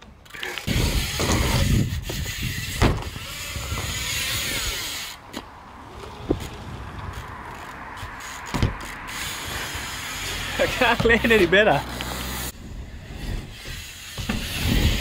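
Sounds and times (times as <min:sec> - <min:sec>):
bike tyres rumbling on ramp: 0:00.6 - 0:05.1, 0:05.9 - 0:15.0.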